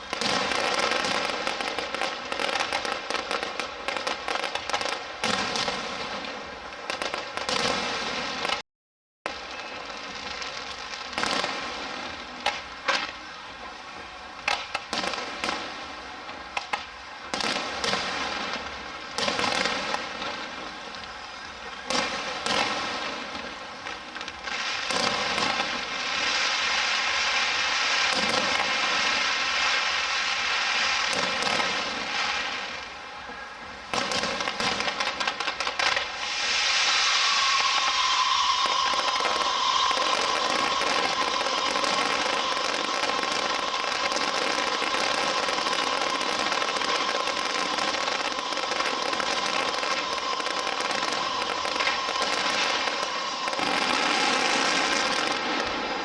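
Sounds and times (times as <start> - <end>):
fireworks bangs: 0.0 - 8.6, 9.3 - 56.0
fireworks crackle: 0.0 - 8.6, 9.3 - 56.0.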